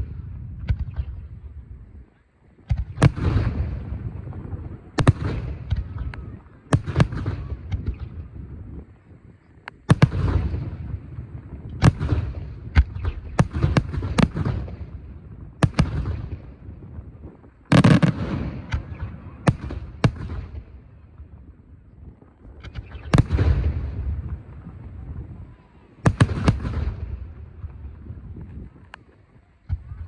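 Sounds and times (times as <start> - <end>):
fireworks bangs with rumble: 0.0 - 1.5, 2.6 - 8.9, 9.8 - 30.0.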